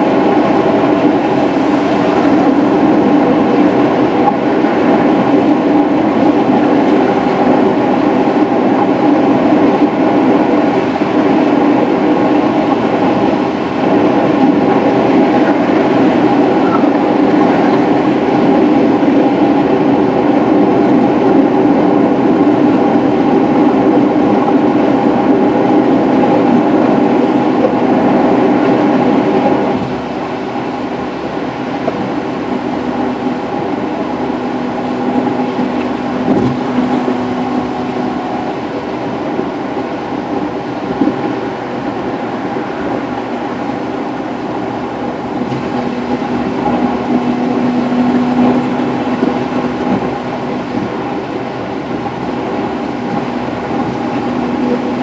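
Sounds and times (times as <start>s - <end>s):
car cabin road and engine drone: 0.0s - 55.0s.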